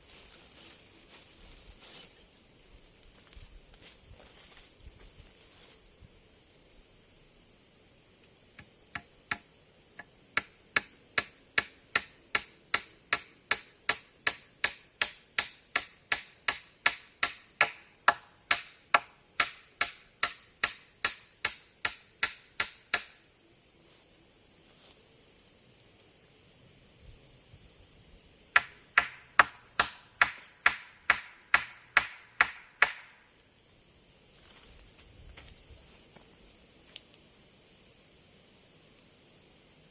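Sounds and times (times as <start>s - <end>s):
forest insects droning: 0.0s - 39.9s.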